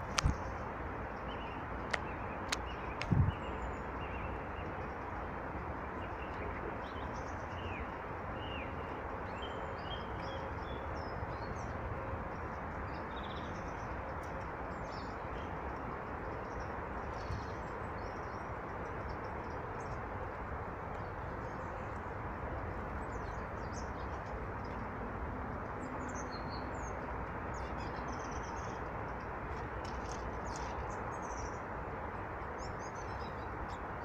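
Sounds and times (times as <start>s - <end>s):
small birds chirping: 0.0s - 24.9s, 25.5s - 31.8s.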